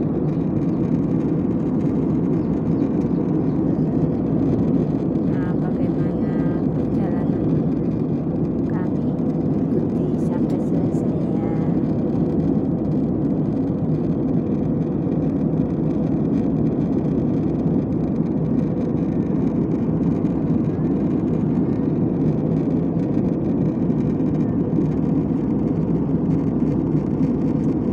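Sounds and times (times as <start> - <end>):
airliner cabin engine rumble: 0.0 - 27.9.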